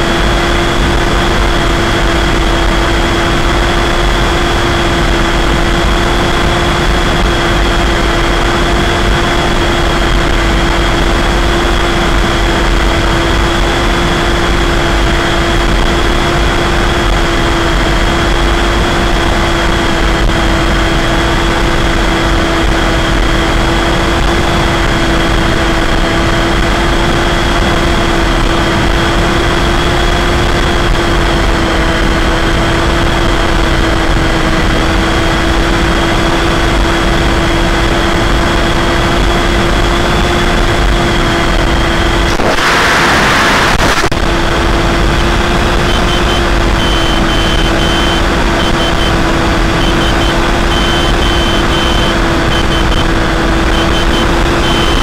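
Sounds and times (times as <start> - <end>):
electric motor propeller whine: 0.0 - 55.0
wind noise on microphone: 0.0 - 55.0.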